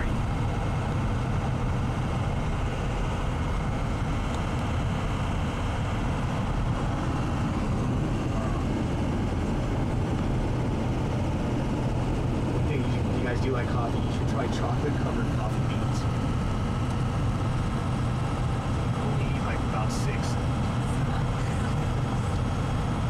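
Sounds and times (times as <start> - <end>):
car interior road drone: 0.0 - 23.0.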